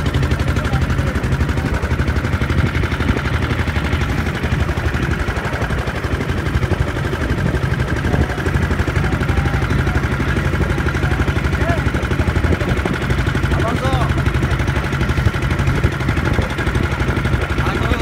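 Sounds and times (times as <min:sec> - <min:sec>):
boat engine chugging: 0:00.0 - 0:18.0.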